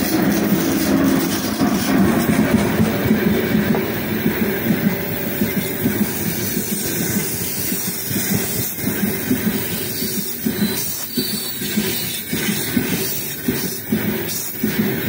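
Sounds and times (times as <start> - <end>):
freight train rumbling past: 0.0 - 15.0
train wheels clattering: 0.0 - 15.0.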